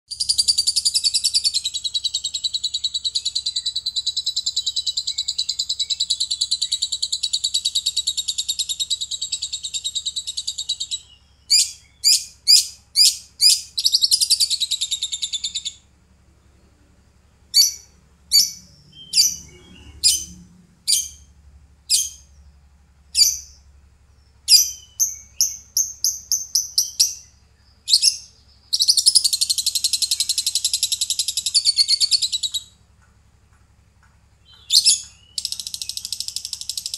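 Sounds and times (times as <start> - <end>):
lovebird trilling: 0.1 - 15.9, 17.5 - 22.4, 23.1 - 32.8, 34.4 - 36.9
sharp bird chirps: 0.1 - 32.8, 34.4 - 36.9.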